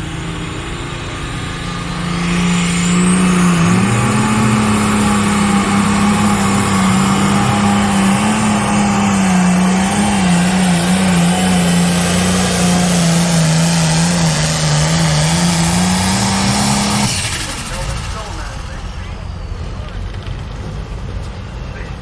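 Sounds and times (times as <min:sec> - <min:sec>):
diesel tractor engine at high revs: 0:00.0 - 0:22.0.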